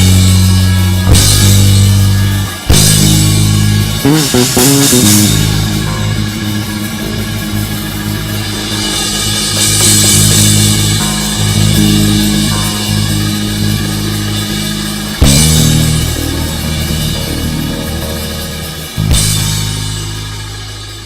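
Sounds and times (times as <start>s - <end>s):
bass guitar: 0.0s - 21.0s
drums: 0.0s - 21.0s
electric guitar: 0.0s - 21.0s.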